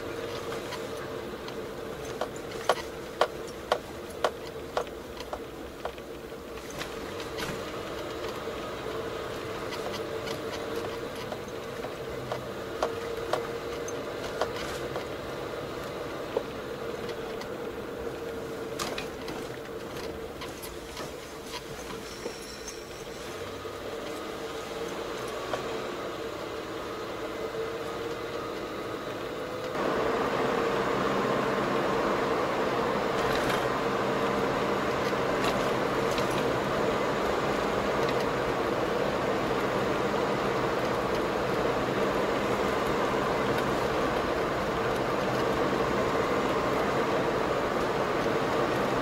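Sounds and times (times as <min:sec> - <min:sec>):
car engine and road hum: 0:00.0 - 0:49.0.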